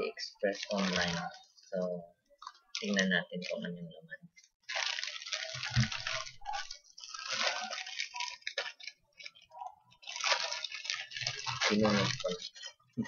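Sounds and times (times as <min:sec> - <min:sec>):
plastic bag crinkling: 0:00.3 - 0:03.9, 0:04.6 - 0:13.0.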